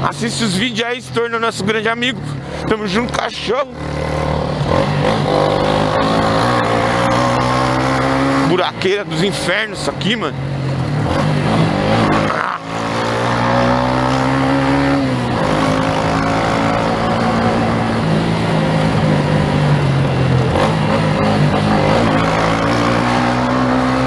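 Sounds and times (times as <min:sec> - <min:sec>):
wind and road noise: 0:00.0 - 0:24.0
motorcycle engine running: 0:01.6 - 0:24.0.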